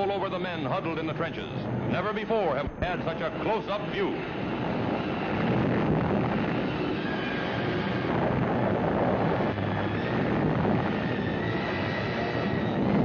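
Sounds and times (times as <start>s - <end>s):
blast wind rumble and rush: 0.0s - 13.0s.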